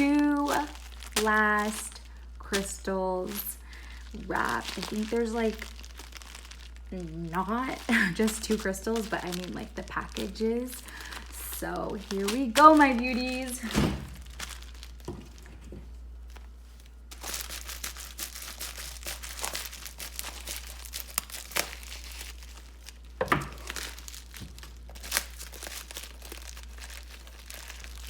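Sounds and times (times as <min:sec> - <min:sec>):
wrapping crinkling and tearing: 0:00.0 - 0:28.0.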